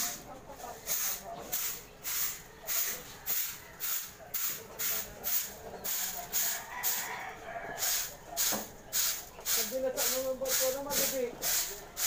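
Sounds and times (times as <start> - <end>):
broom sweeping pavement: 0.0 - 7.1, 7.8 - 12.0.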